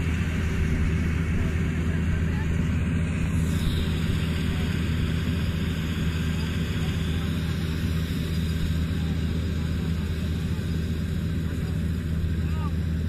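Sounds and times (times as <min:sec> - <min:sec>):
combine harvester running: 0:00.0 - 0:13.0.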